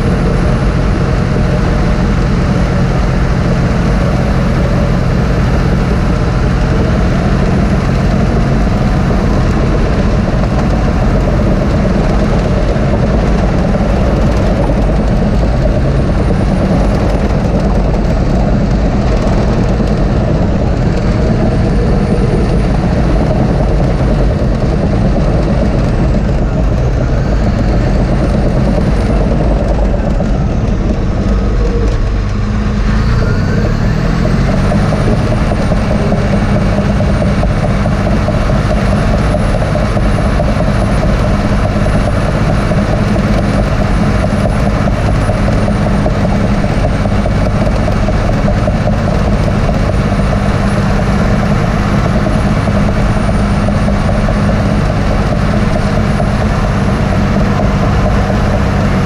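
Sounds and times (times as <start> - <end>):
bulldozer engine under load: 0.0 - 59.0.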